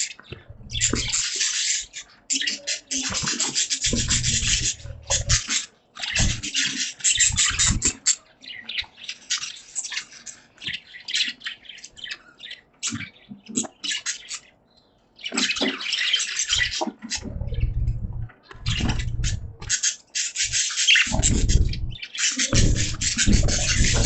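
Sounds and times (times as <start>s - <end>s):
budgies chirping and warbling: 0.0s - 24.0s.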